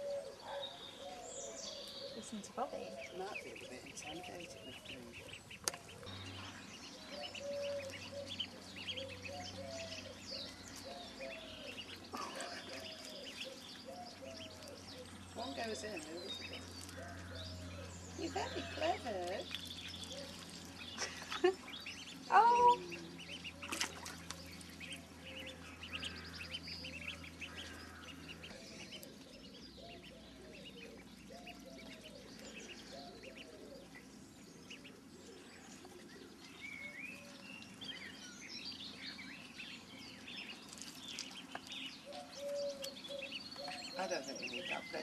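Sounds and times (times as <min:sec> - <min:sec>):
ducklings quacking softly: 0:02.1 - 0:45.0.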